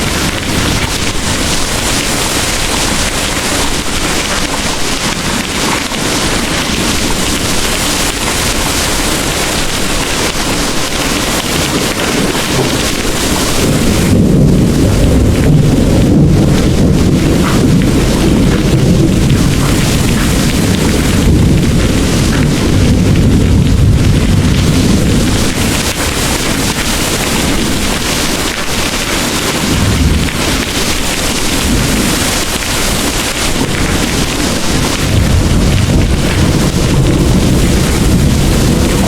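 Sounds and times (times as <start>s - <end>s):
heavy rain pouring: 0.0s - 39.0s
rolling thunder: 0.0s - 39.0s.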